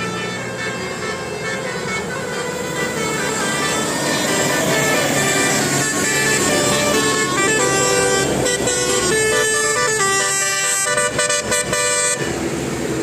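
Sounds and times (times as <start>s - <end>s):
multi-tone bus horn tune: 0.0s - 12.5s.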